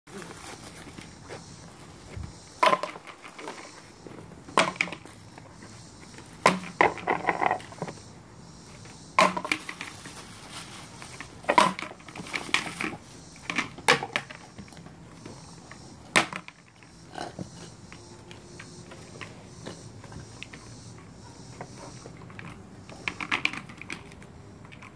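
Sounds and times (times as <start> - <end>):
frisbees clacking on concrete: 0.1 - 24.9.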